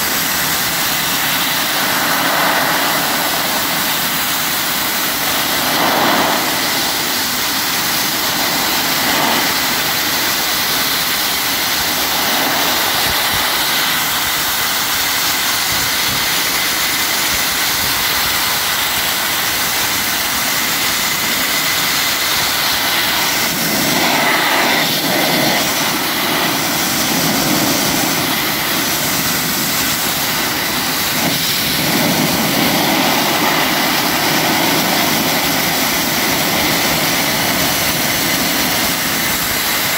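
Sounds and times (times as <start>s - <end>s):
abrasive blasting nozzle hissing: 0.0s - 39.9s.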